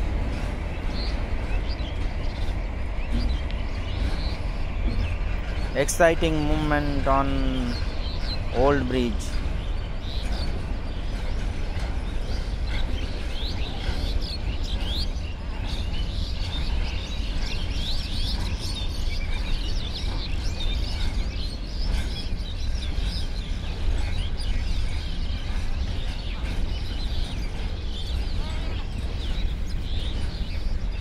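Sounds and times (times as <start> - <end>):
birds chirping: 0.0 - 31.0
freight train rumbling past: 0.0 - 31.0.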